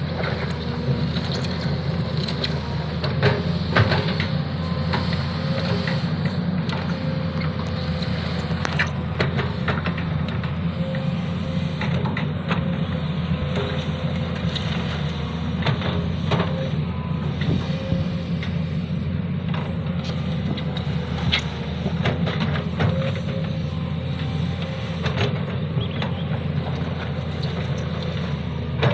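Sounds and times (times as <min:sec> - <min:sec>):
excavator clanks and knocks: 0:00.0 - 0:28.9
excavator diesel engine running: 0:00.0 - 0:28.9.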